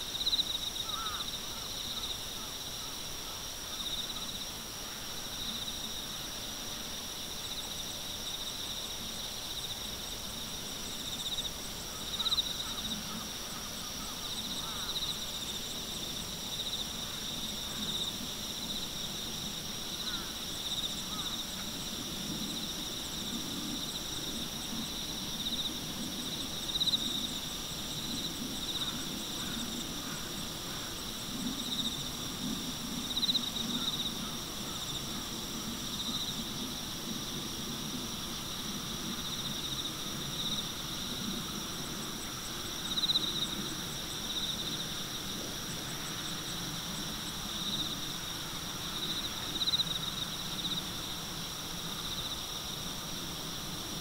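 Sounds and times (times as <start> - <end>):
continuous high insect trill: 0.0 - 54.0
pulsing insect trill: 0.0 - 54.0.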